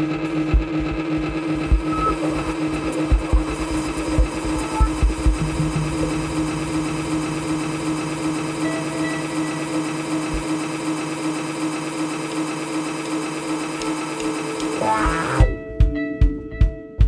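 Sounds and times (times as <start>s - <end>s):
buzzing amplified drone: 0.0s - 15.5s.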